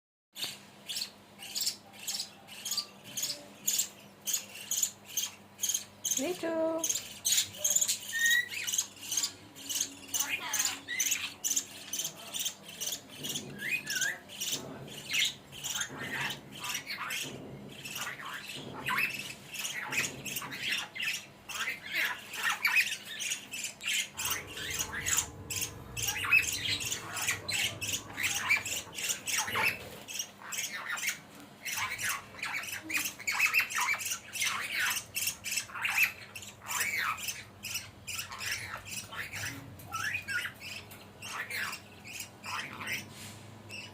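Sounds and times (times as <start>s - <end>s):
parrot squawking and chattering: 0.4s - 43.9s.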